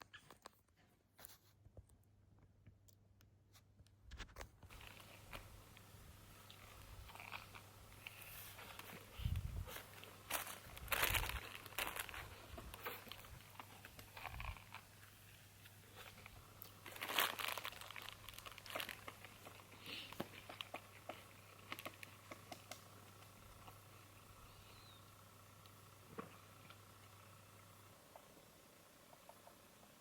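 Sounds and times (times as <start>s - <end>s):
crinkling and rustling: 0.0s - 24.1s.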